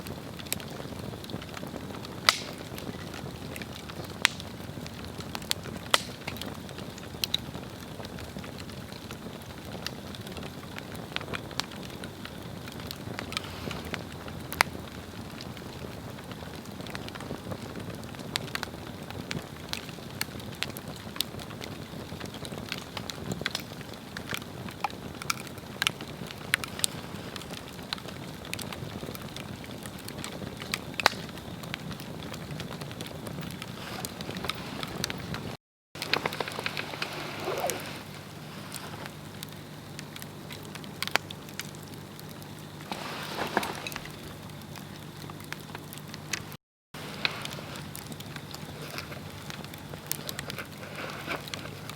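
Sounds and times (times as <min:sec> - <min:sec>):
fire hissing: 0:00.0 - 0:51.9
flame rumbling: 0:00.0 - 0:51.9
wood crackling and popping: 0:00.0 - 0:51.9.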